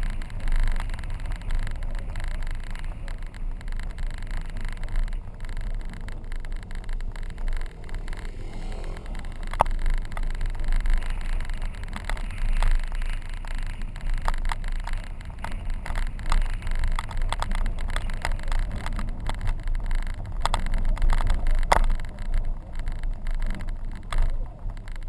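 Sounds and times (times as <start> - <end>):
car driving on dirt road: 0.0 - 25.0.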